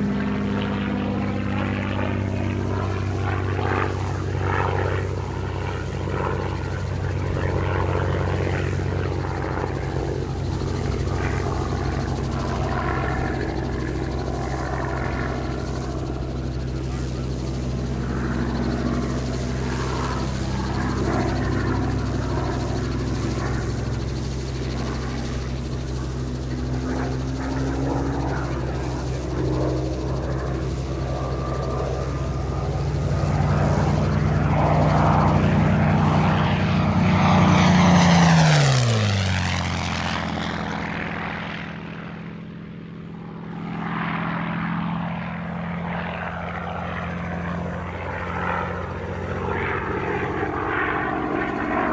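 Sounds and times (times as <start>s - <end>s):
propeller plane engine passing: 0.0s - 51.9s.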